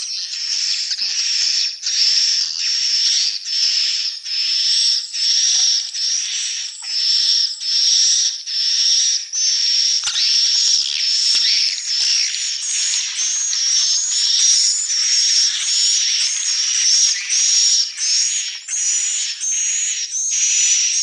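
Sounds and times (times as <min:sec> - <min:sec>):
swiftlet twittering chirps: 0:00.1 - 0:21.0.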